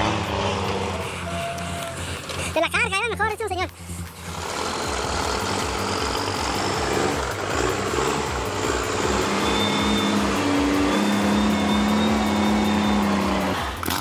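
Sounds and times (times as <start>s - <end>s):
steady hum: 0.0s - 14.0s
truck engine throbbing: 0.0s - 14.0s.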